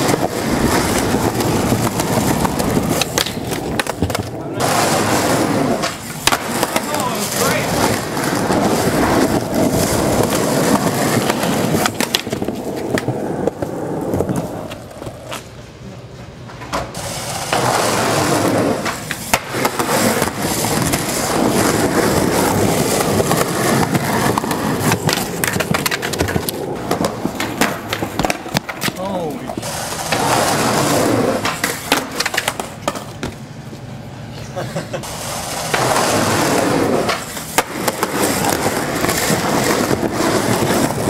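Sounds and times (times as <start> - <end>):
skateboard knocking on ground: 0.0 - 15.5, 16.5 - 33.4, 35.5 - 41.0
skateboard rolling on rough concrete: 0.0 - 41.0.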